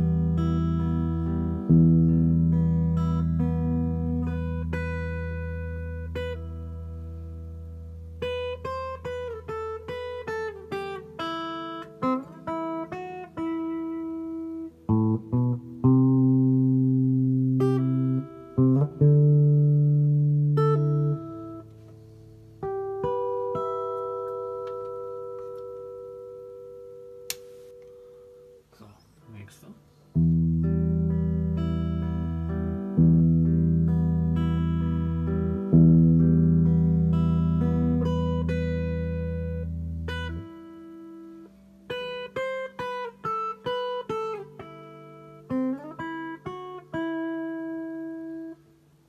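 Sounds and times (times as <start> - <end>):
reverb guitar notes and chords: 0.0 - 28.6, 30.1 - 48.8.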